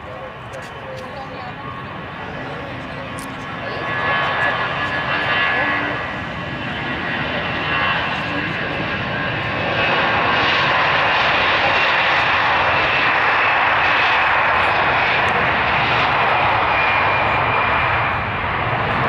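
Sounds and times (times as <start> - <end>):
high engine whine: 0.0 - 19.0
jet engines at takeoff thrust: 0.0 - 19.0.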